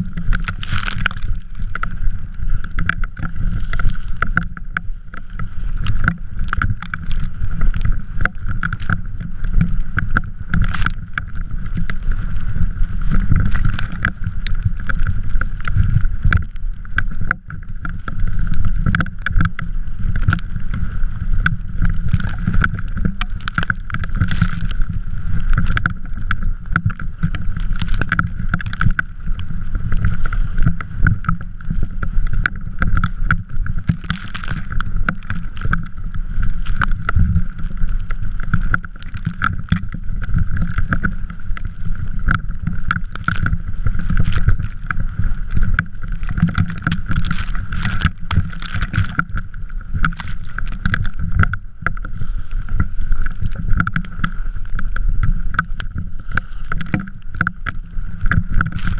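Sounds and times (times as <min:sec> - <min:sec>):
trike rolling over snow: 0:00.0 - 0:58.9.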